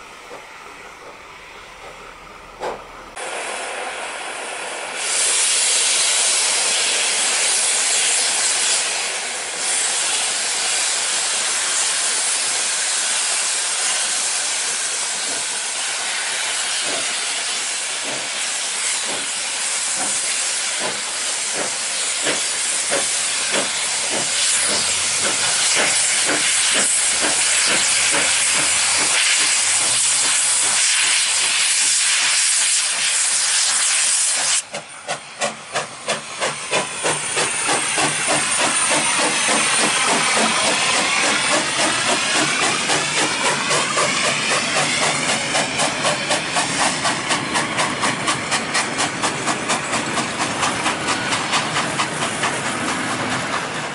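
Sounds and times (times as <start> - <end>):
steam hissing: 0.0 - 53.9
steam locomotive chuffing: 0.0 - 53.9.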